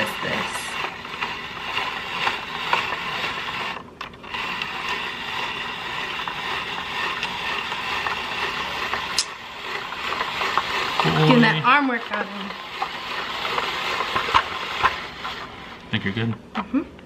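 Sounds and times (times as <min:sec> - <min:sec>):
spiralizer crank rasping: 0:00.0 - 0:16.2.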